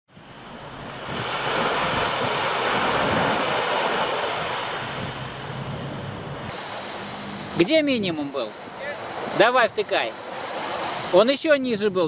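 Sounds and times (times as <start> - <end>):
waves washing up a beach: 0.1 - 12.0
wind buffeting microphone: 0.1 - 12.0.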